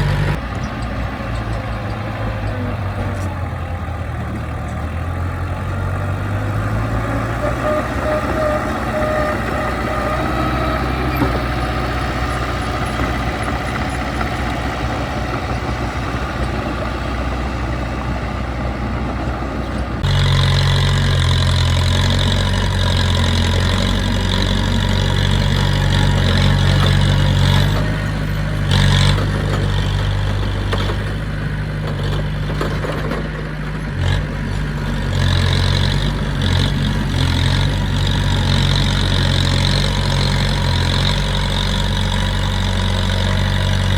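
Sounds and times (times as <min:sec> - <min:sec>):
heavy diesel engine running: 0:00.0 - 0:43.9
high engine whine: 0:00.0 - 0:43.9.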